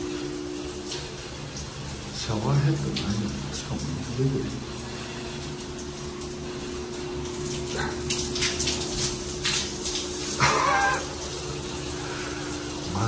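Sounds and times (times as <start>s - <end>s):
shower water running: 0.0s - 13.0s.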